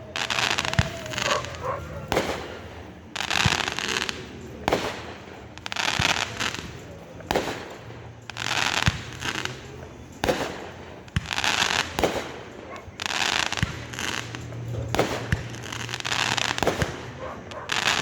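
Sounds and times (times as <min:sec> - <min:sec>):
fireworks crackling hiss: 0:00.0 - 0:18.0
fireworks pops and bangs: 0:00.0 - 0:18.0.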